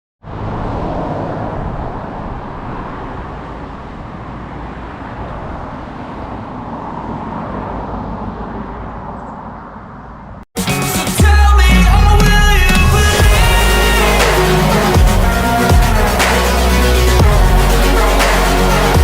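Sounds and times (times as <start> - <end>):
highway traffic rumble: 0.2 - 10.5, 12.0 - 19.0.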